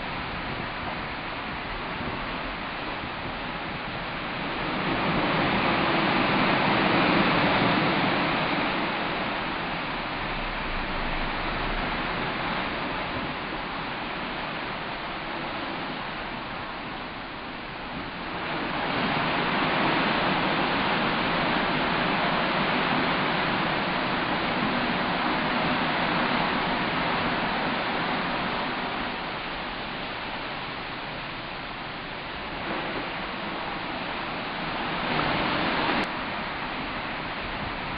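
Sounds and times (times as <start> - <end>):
water rushing along ship hull: 0.0 - 37.9.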